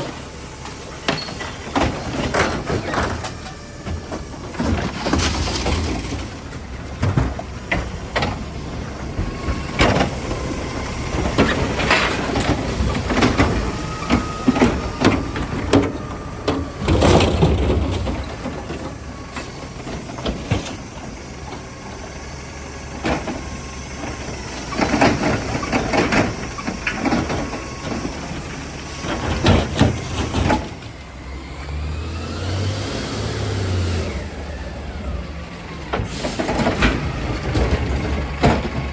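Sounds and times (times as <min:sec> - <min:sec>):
garbage truck engine running: 0:00.0 - 0:38.9
trash loading bangs and clatter: 0:00.0 - 0:38.9.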